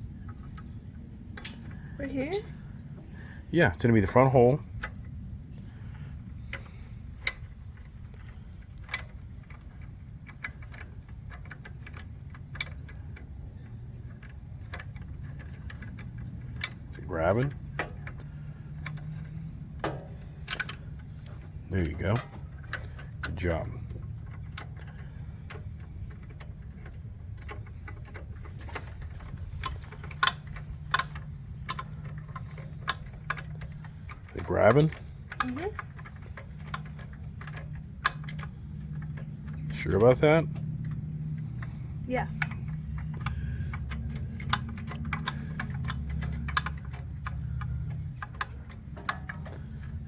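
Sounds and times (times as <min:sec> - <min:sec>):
steady low hum: 0:00.0 - 0:50.0
steady low rumble: 0:00.0 - 0:50.0
hand tool clicking on metal bolt: 0:06.4 - 0:50.0.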